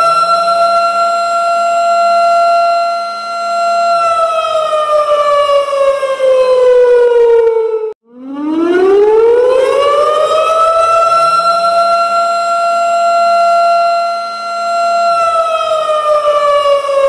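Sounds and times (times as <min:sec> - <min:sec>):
air-raid siren: 0:00.0 - 0:17.0.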